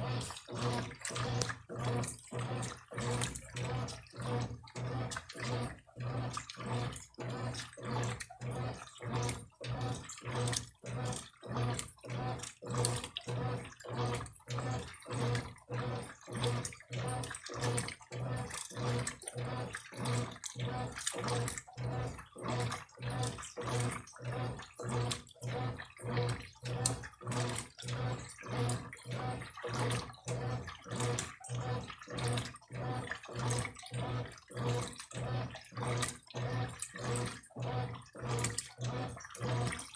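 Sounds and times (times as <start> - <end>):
washing machine motor hum: 0.0 - 39.9
washing machine sloshing clothes: 0.0 - 39.9.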